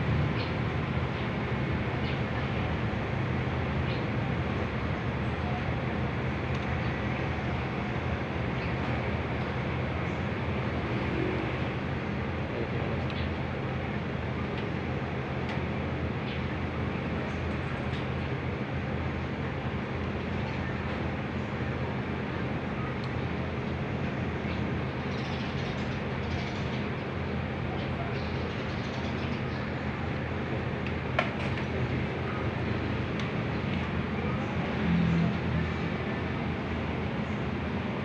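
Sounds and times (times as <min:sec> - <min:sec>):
air conditioner unit humming: 0:00.0 - 0:38.0.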